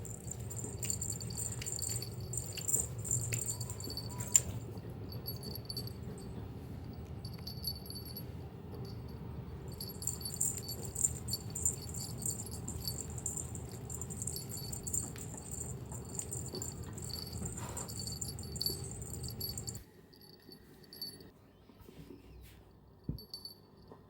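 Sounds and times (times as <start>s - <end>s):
small metal objects jingling: 0.0s - 6.4s, 7.0s - 8.2s, 8.8s - 21.3s
low steady rumble: 0.0s - 21.2s.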